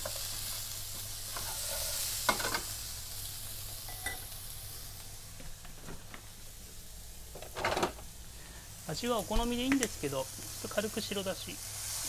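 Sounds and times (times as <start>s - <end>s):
food sizzling in a frying pan: 0.0s - 5.6s, 6.2s - 12.0s.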